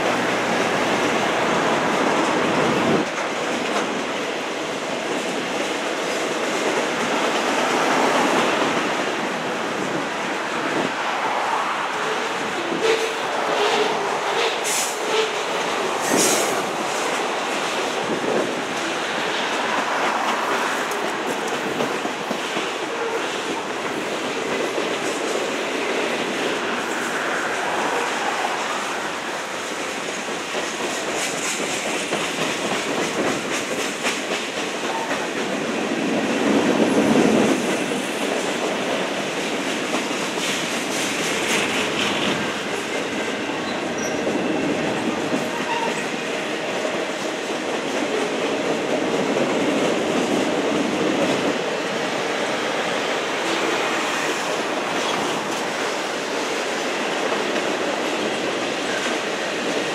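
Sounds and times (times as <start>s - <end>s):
rail clicks: 0.0s - 59.9s
train wheels rumbling on rails: 0.0s - 59.9s.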